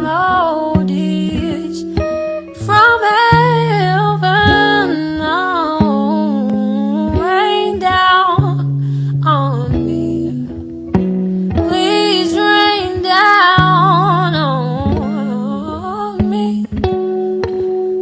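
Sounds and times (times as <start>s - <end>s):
person singing slow melody: 0.0s - 10.7s, 11.6s - 17.1s
acoustic guitar: 0.0s - 18.0s.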